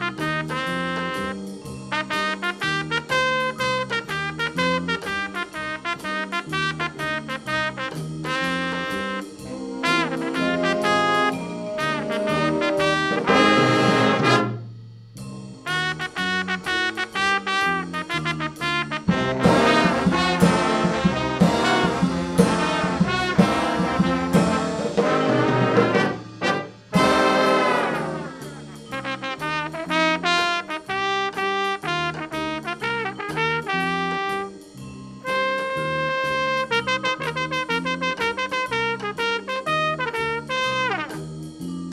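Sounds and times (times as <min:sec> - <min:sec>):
jazz big band playing: 0:00.0 - 0:41.9.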